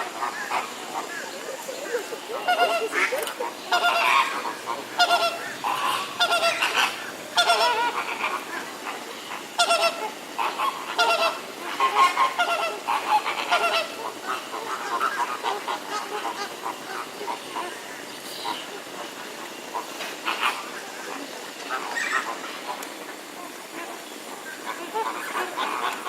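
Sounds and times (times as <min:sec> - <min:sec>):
waterbirds honking: 0:00.0 - 0:26.0.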